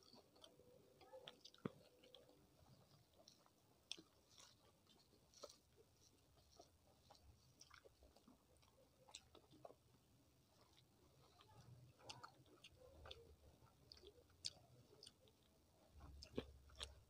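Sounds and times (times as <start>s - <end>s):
chewing and mouth sounds: 0.0s - 17.0s.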